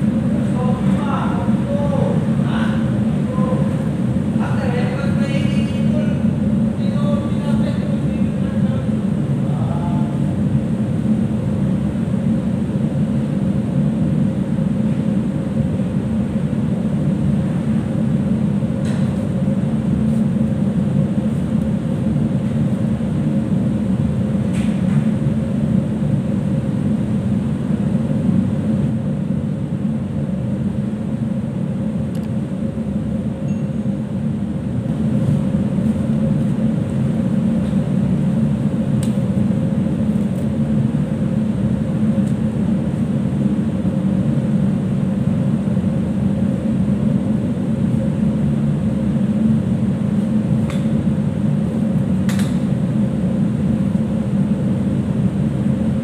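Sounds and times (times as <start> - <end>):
ship machinery drone: 0.0 - 56.0.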